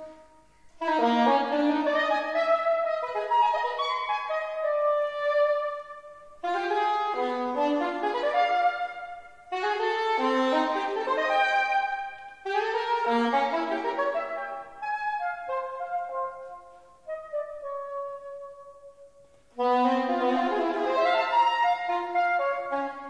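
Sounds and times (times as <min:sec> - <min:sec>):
soprano saxophone melody: 0:00.0 - 0:23.0.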